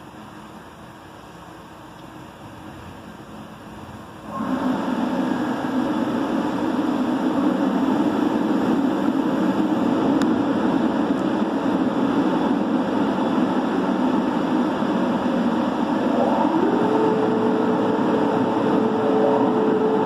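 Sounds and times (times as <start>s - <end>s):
car wash brushes and spray rushing: 2.3s - 20.0s.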